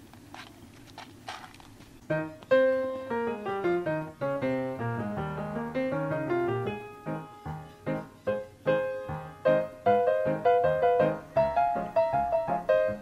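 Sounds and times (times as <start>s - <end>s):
piano-like keyboard melody: 2.0s - 13.0s.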